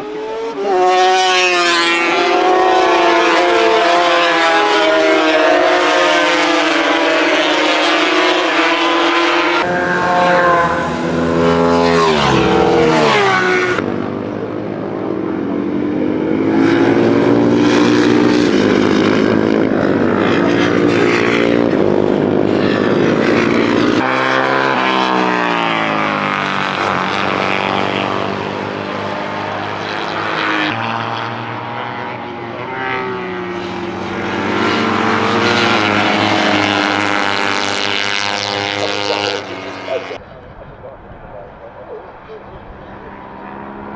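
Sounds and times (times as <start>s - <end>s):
racing motorcycles at full throttle: 0.0s - 43.9s.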